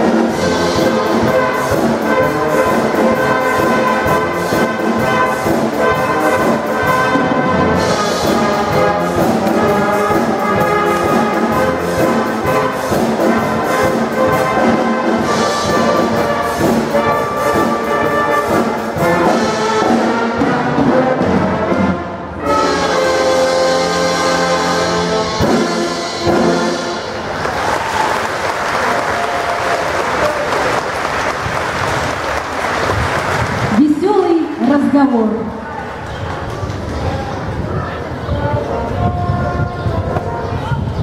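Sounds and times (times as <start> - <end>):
wind band playing: 0.0 - 35.9, 37.4 - 41.0.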